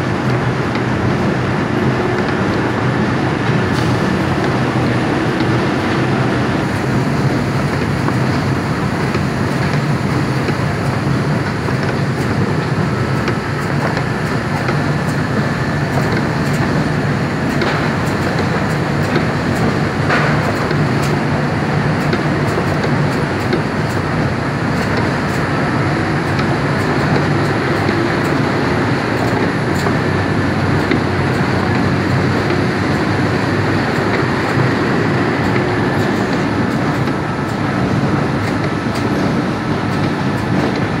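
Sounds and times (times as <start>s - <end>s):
loud machinery din: 0.0s - 41.0s.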